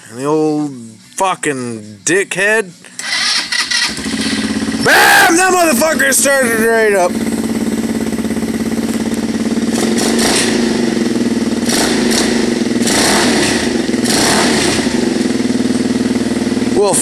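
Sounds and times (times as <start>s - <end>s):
atv engine running: 3.0s - 17.0s.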